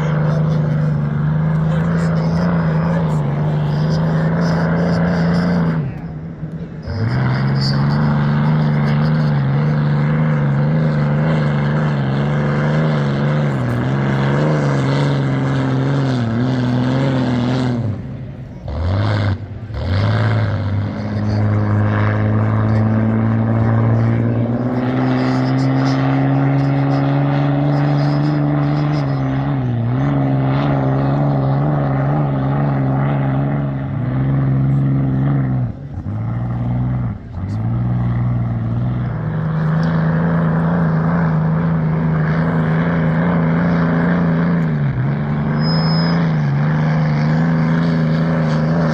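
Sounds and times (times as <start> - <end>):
loud boat engine roaring: 0.0 - 48.9.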